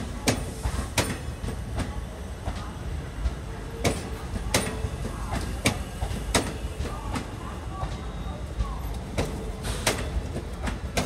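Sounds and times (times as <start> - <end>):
train rolling with low rumble: 0.0 - 11.0.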